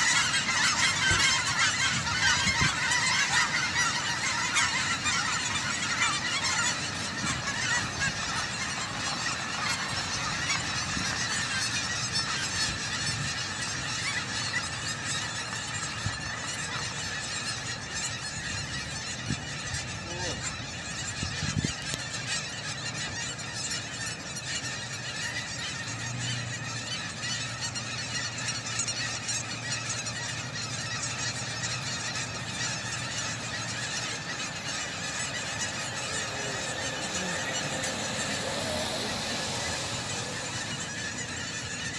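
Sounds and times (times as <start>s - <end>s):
geese honking: 0.0s - 41.9s.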